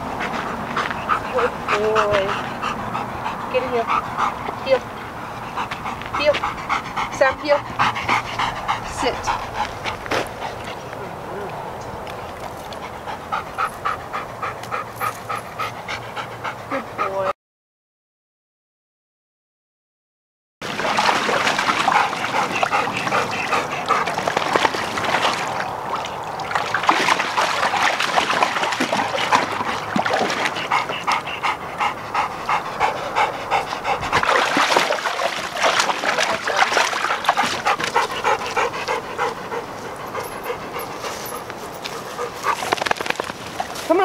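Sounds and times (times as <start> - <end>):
dog panting: 0.0 - 11.5, 12.4 - 17.3, 21.5 - 25.1, 27.0 - 43.2
water sloshing in a plastic pool: 0.0 - 16.1, 20.6 - 44.0.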